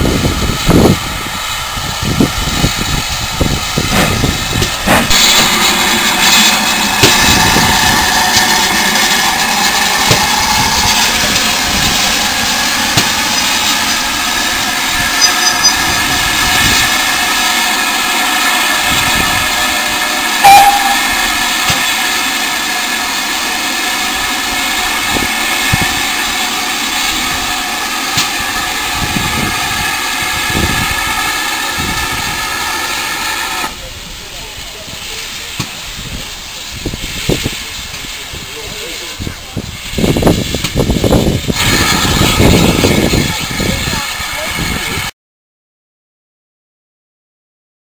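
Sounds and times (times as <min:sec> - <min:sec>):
steam locomotive hissing: 0:00.0 - 0:45.1.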